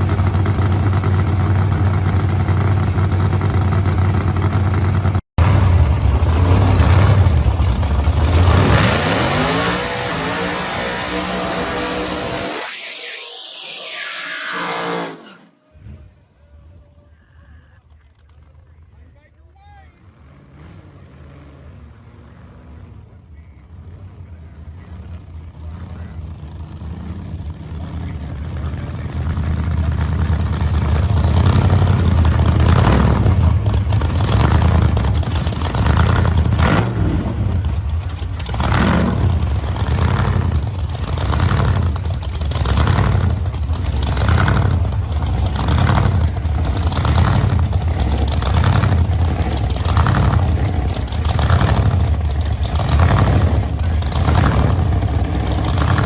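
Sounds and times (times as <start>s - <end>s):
hot rod engine revving: 0.0s - 16.0s, 20.0s - 56.0s.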